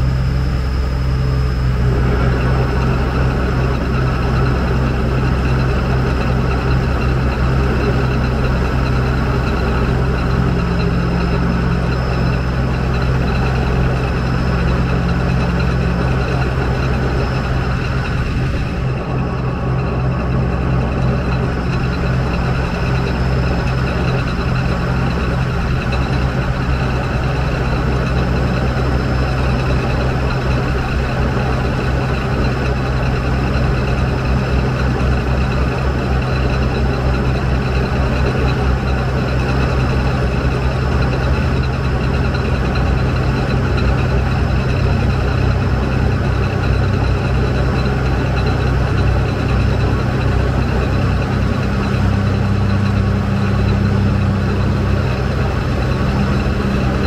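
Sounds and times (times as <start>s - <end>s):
high hydraulic whine: 0.0s - 57.0s
low engine drone: 0.0s - 57.0s.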